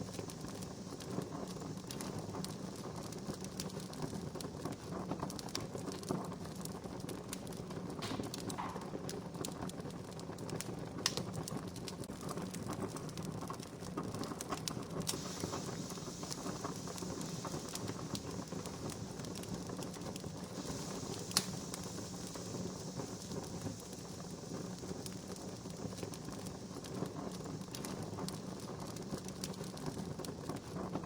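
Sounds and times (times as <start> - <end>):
campfire crackling and popping: 0.0 - 31.0
soft fire hiss: 0.0 - 31.0.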